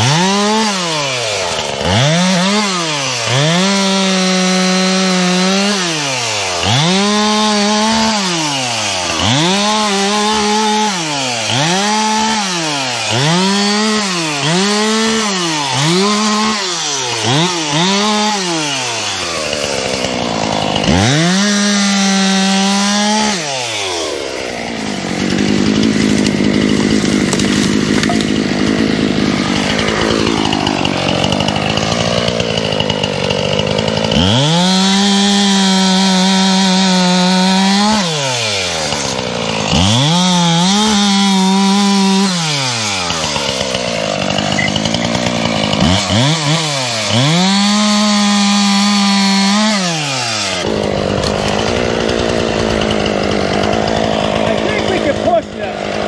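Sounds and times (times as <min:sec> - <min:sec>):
chainsaw cutting wood: 0:00.0 - 0:56.0
chainsaw revving: 0:00.0 - 0:56.0.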